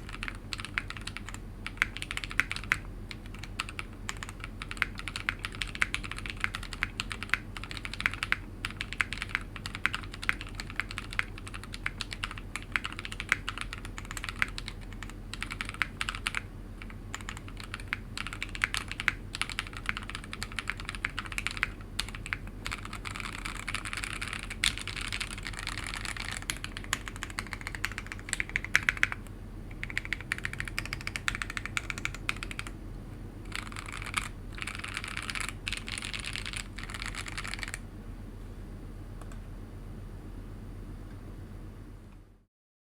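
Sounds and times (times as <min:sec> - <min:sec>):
mechanical keyboard typing: 0:00.0 - 0:32.8, 0:33.5 - 0:37.8.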